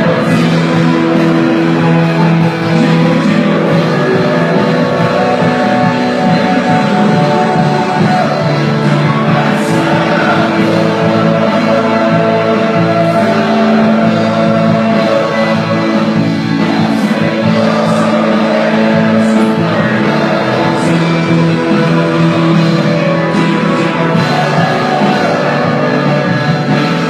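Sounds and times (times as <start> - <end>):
person singing: 0.0 - 27.0
worship band music: 0.0 - 27.0.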